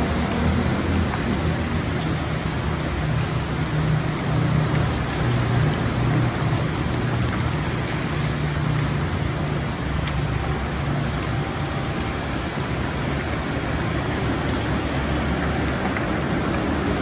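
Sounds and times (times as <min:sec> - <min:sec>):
floodwater rushing: 0:00.0 - 0:17.0
road traffic rumble: 0:00.0 - 0:17.0.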